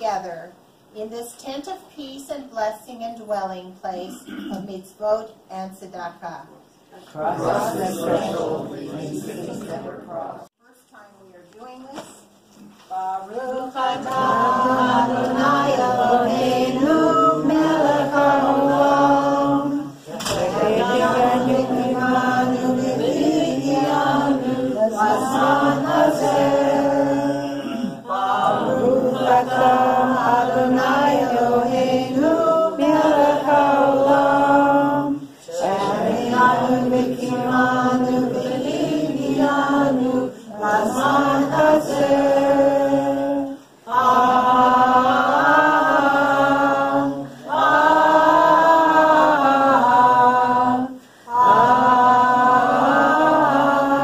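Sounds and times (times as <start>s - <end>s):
voices singing slow chant: 7.1s - 9.9s, 13.3s - 54.0s.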